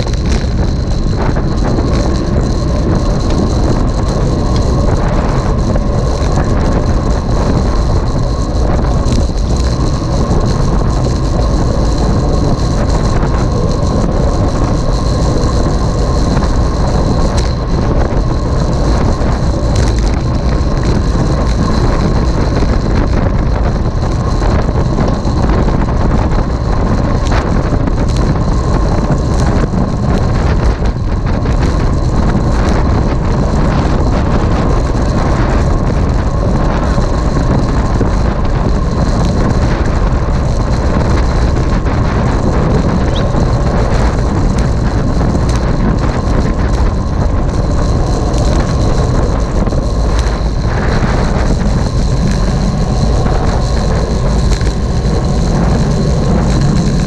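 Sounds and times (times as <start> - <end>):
rumbling road noise: 0.0 - 57.0
wind buffeting the microphone: 0.0 - 57.0.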